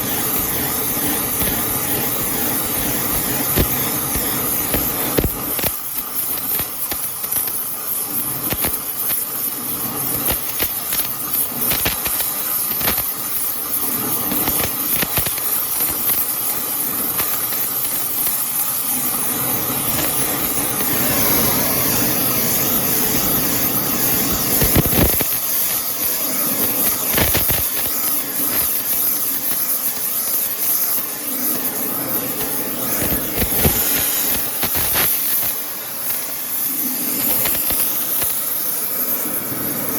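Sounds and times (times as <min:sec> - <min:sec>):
welding arc crackling and hissing: 0:00.0 - 0:39.9.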